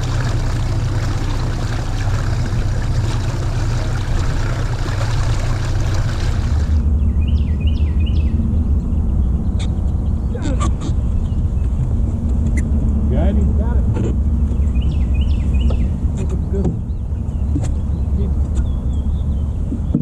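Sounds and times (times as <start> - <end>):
boat low rumble: 0.0 - 20.0.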